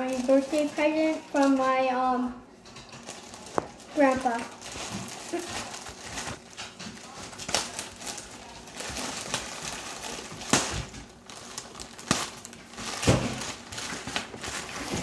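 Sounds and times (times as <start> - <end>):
plastic mailer bag crinkling: 0.0 - 15.0.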